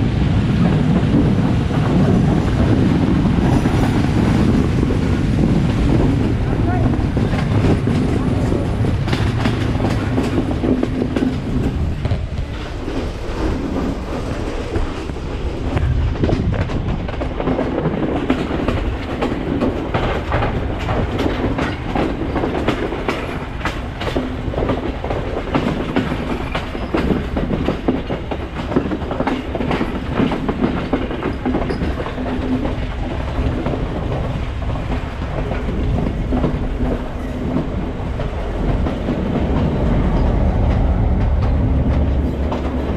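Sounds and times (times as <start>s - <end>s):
train wheels clattering on rails: 0.0s - 42.9s.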